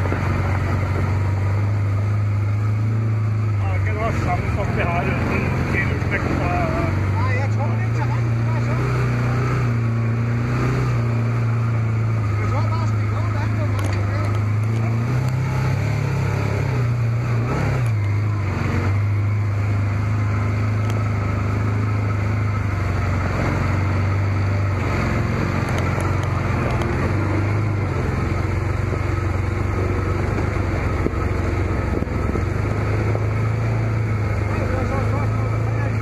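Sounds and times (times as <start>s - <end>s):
utility vehicle engine running: 0.0s - 36.0s.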